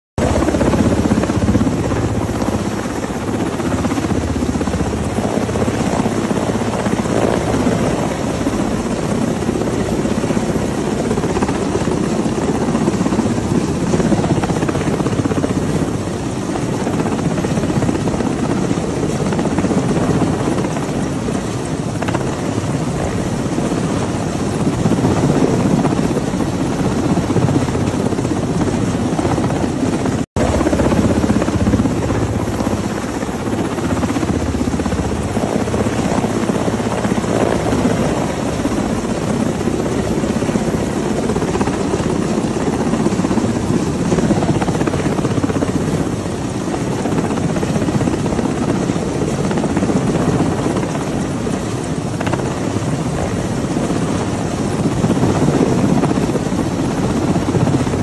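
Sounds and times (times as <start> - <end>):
helicopter rotor beat: 0.2 - 58.0.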